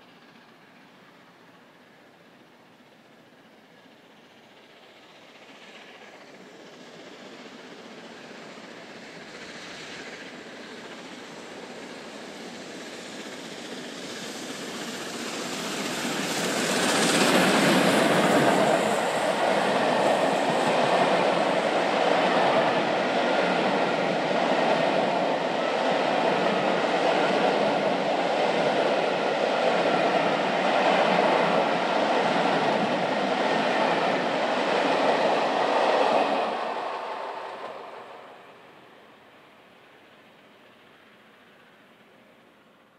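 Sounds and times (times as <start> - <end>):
steam locomotive passing: 0.0 - 42.9.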